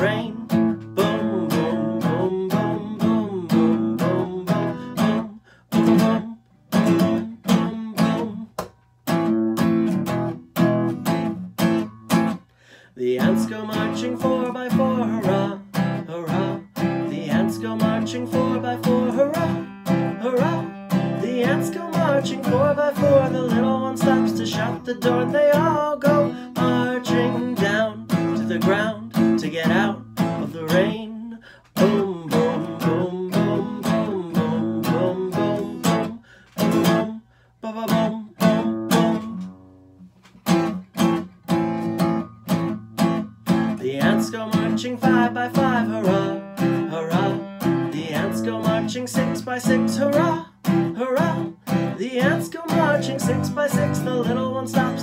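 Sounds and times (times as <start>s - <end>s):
man singing: 0.0s - 8.7s, 12.9s - 39.5s, 43.5s - 55.0s
acoustic guitar strumming: 0.0s - 55.0s.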